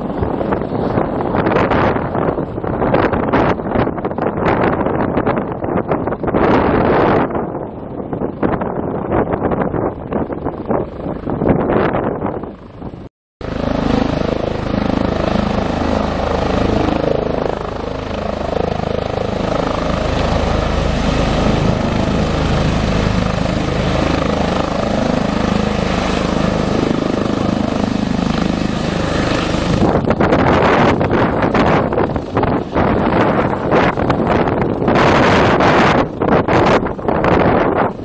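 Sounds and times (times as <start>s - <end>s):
helicopter hovering: 0.0s - 38.0s.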